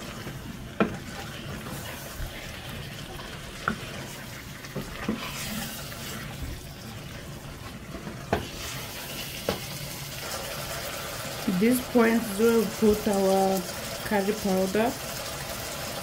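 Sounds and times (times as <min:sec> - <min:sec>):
wooden spoon stirring: 0:00.0 - 0:13.1
meatballs frying in a pot: 0:00.0 - 0:16.0.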